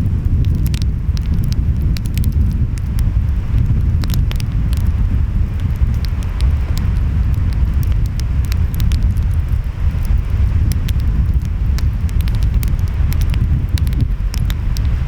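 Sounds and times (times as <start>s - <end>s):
wind: 0.0s - 15.0s
wood fire crackling: 0.0s - 15.0s.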